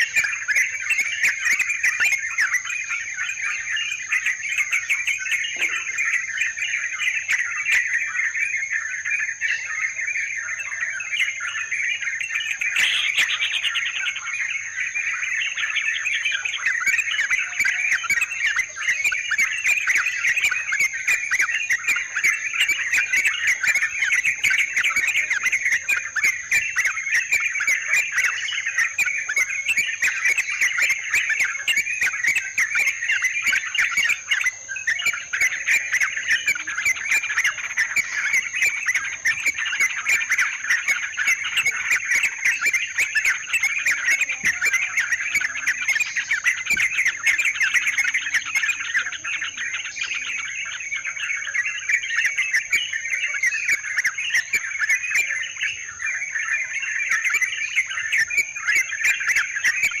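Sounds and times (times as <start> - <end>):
bulbuls chattering and singing: 0.0 - 60.0.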